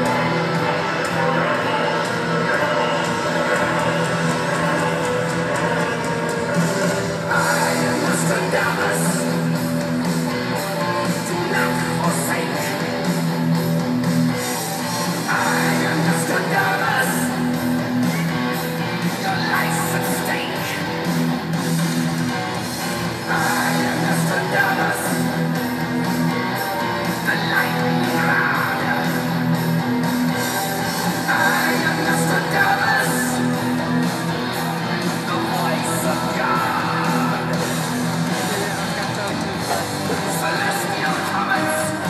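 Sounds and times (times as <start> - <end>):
guitar: 0.0 - 42.0
person singing: 0.0 - 42.0.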